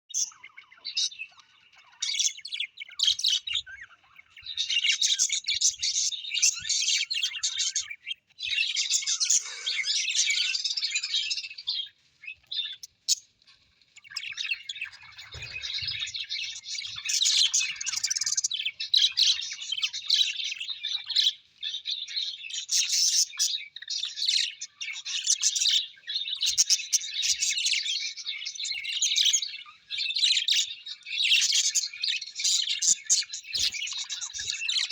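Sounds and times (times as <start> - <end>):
birds chirping and twittering: 0.0 - 34.9.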